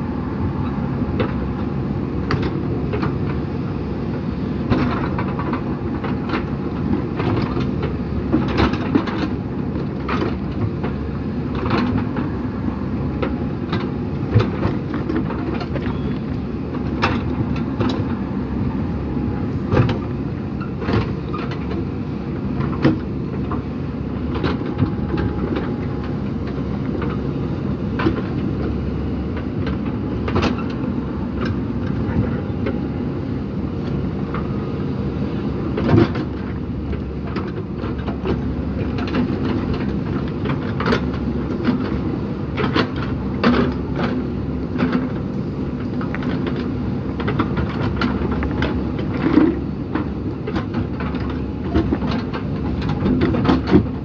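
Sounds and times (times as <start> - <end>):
diesel engine running under load: 0.0 - 54.0.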